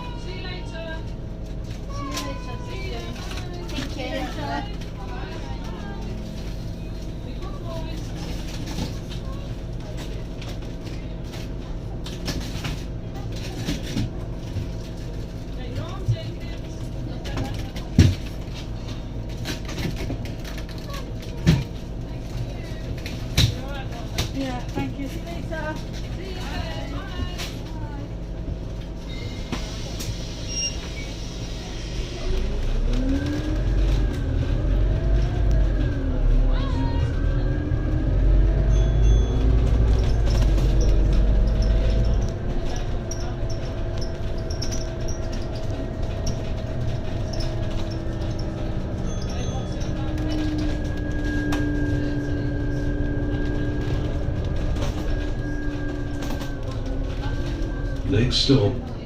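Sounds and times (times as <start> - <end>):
bus engine running: 0.0 - 59.0
low road rumble: 0.0 - 59.0.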